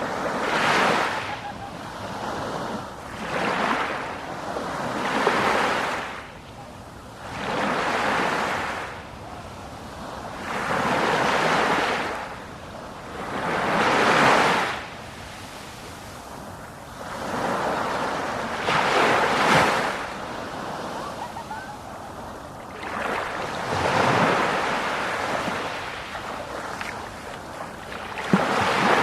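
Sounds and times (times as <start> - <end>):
sea waves washing in: 0.0 - 29.0.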